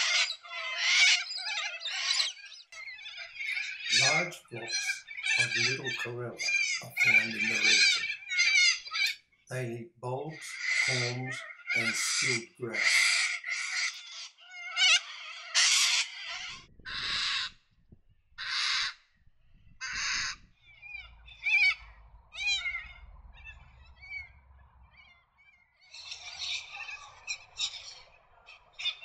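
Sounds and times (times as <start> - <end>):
parrots screeching: 0.0 - 9.3, 10.1 - 17.6, 18.4 - 19.0, 19.8 - 29.0
wavering pitched bird calls: 0.0 - 17.6, 18.4 - 19.0, 19.8 - 29.0.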